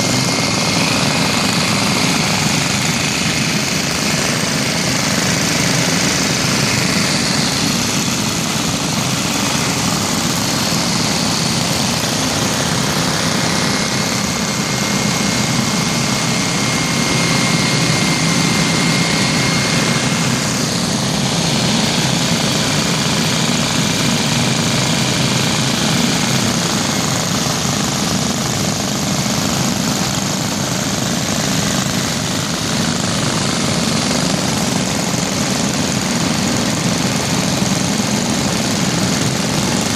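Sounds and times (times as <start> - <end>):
many small engines running: 0.0 - 39.9.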